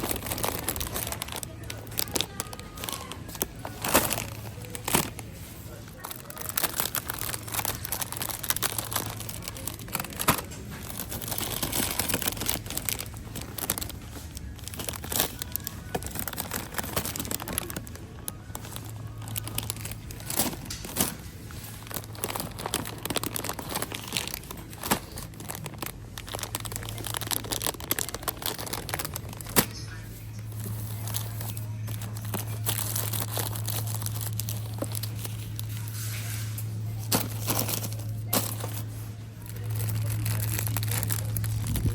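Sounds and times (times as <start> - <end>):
plastic snack packaging crinkling: 0.0 - 41.9
steady low hum: 0.0 - 41.9.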